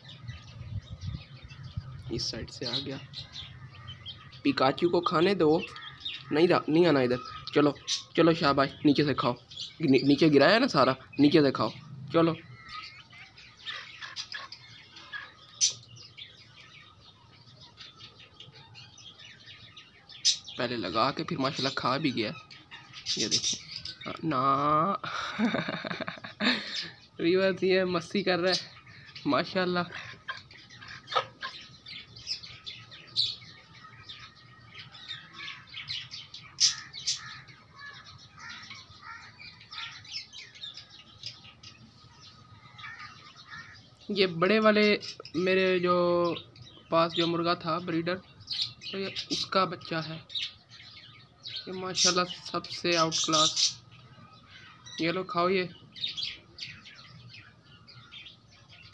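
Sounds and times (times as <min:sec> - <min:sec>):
chicks cheeping: 0:00.0 - 0:58.9
faint bird chirps: 0:00.0 - 0:58.9.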